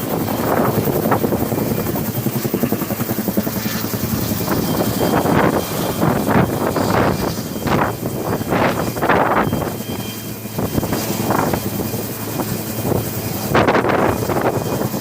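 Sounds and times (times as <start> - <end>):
helicopter rotor thudding: 0.0 - 15.0
turbine engine whine: 0.0 - 15.0.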